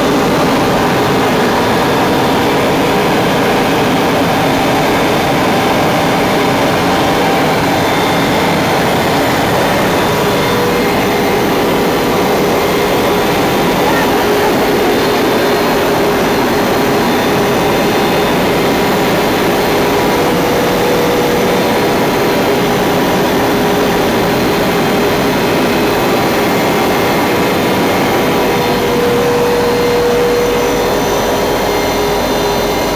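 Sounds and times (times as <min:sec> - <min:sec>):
aircraft engine and airflow noise: 0:00.0 - 0:32.9.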